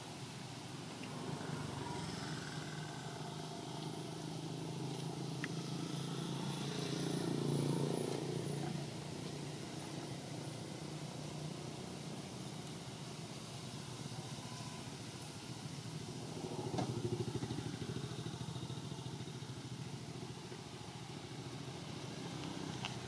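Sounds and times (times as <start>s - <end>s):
vehicle engine passing: 1.0s - 12.4s, 15.8s - 23.0s.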